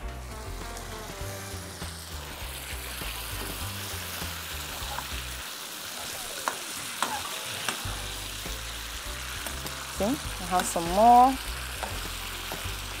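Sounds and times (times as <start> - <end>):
background music with bass: 0.0 - 5.5, 7.9 - 13.0
sauce sizzling in a frying pan: 0.0 - 13.0.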